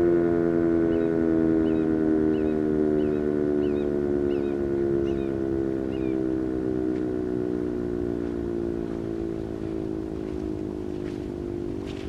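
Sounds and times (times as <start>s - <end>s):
warning siren winding down: 0.0s - 12.0s.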